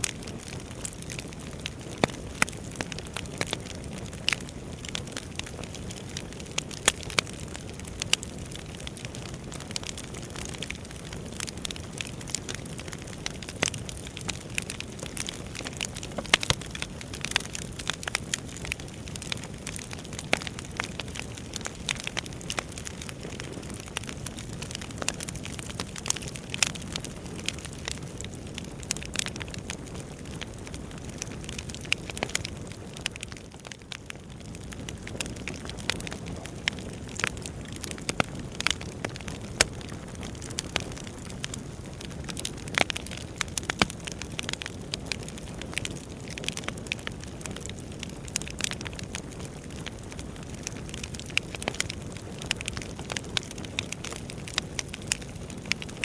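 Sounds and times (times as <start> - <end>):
firewood crackling: 0.0 - 56.0.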